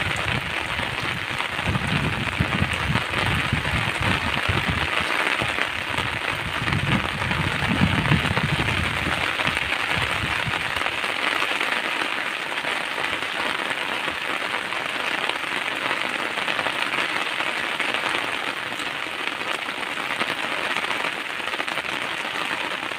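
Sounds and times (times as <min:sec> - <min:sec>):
rain on wet pavement: 0:00.0 - 0:22.9.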